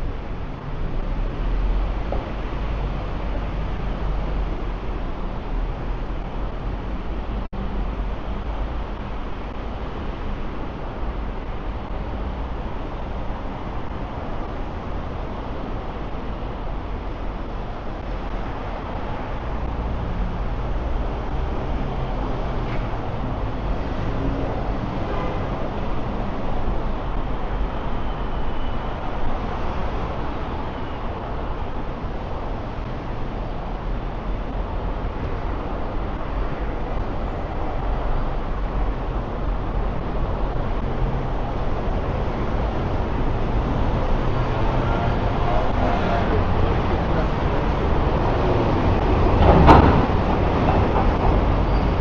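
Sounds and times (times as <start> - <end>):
cars and buses passing: 0.0 - 52.0.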